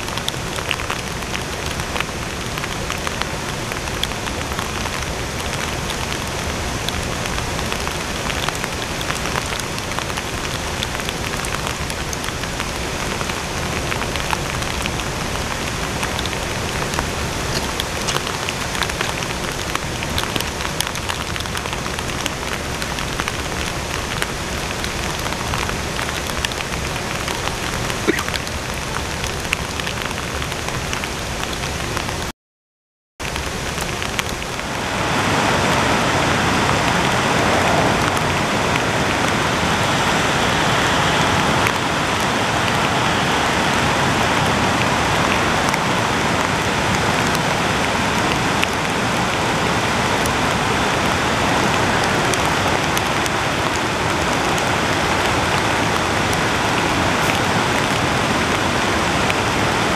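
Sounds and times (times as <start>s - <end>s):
heavy rain falling: 0.0s - 32.3s, 33.2s - 59.9s.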